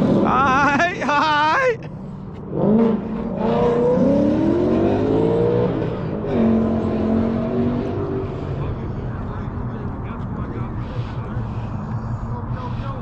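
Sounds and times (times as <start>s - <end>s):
car engine accelerating hard: 0.0s - 0.8s, 2.4s - 13.0s.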